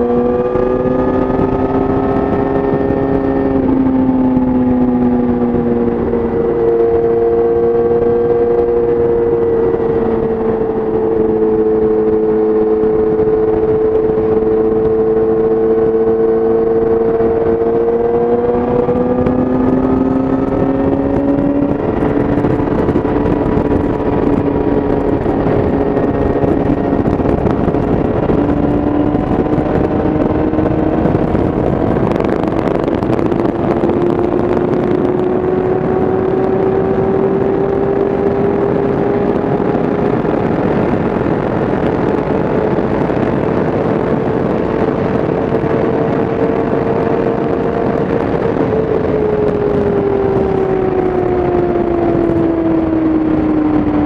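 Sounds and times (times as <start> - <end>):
heavy wind rush: 0.0 - 54.0
motorcycle engine at speed: 0.0 - 54.0.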